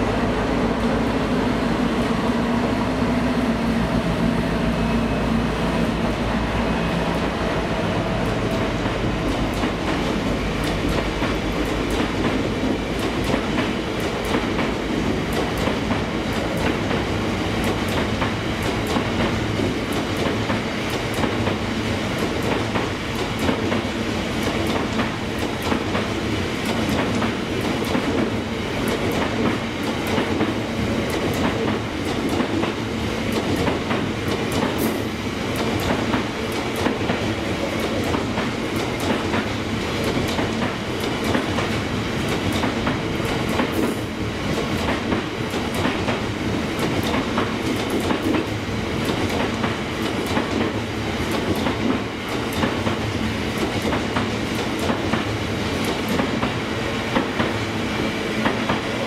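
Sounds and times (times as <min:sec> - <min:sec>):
train wheels clicking over rail joints: 0:08.2 - 0:59.0.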